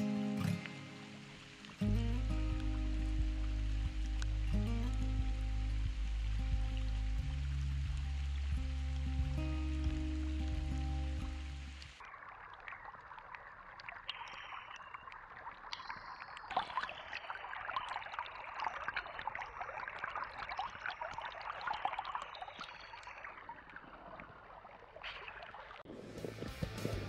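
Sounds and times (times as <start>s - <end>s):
water dripping: 0.0s - 27.0s
water rushing: 0.0s - 27.0s.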